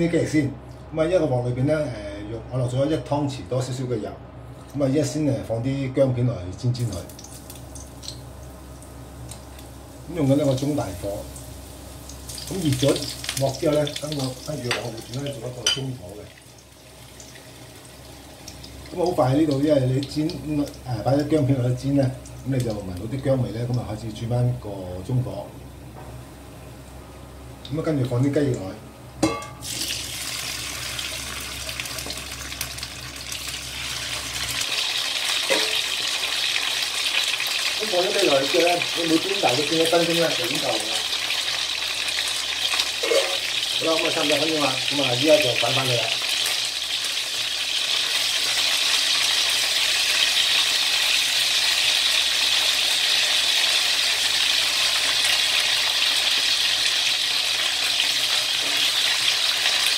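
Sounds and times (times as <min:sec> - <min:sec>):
chicken wings sizzling in oil: 0:07.0 - 0:25.3, 0:27.7 - 0:59.9.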